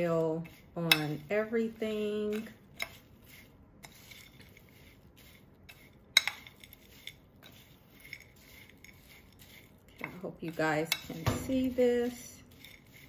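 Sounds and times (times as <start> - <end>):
spoon stirring oats rustling: 0.0 - 13.0.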